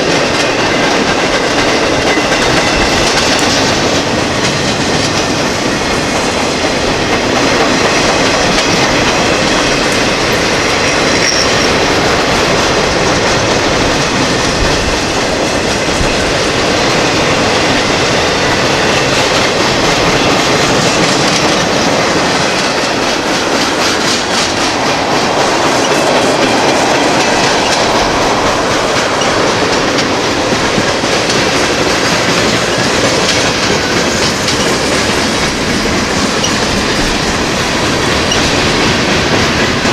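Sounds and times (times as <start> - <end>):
steel train wheels on rail: 0.0 - 39.9.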